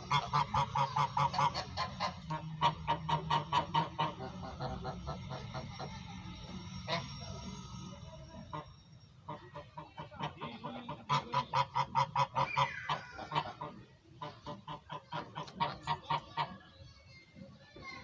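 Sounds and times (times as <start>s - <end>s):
geese honking: 0.0s - 16.7s.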